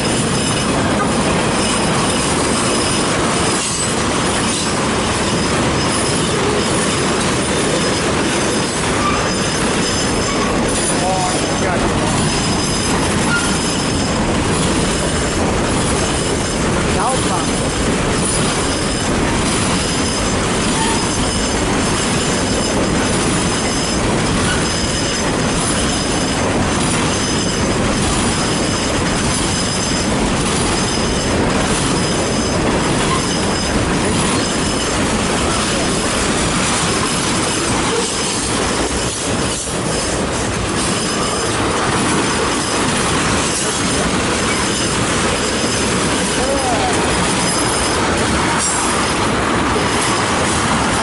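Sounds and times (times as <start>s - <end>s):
freight train wheels rumbling: 0.0s - 51.0s
wheels squealing: 0.1s - 49.2s.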